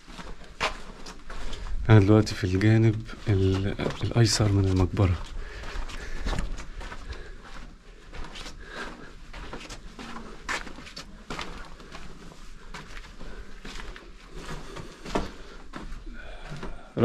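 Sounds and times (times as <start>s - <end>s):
footsteps and scuffing: 0.0s - 16.8s
soft rustling: 0.0s - 16.9s.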